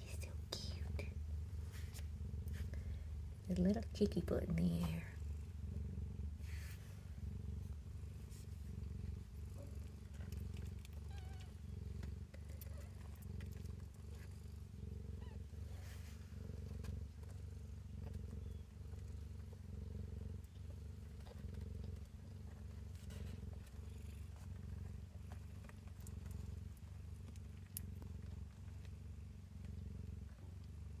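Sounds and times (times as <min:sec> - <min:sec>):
cat purring: 0:00.0 - 0:31.0.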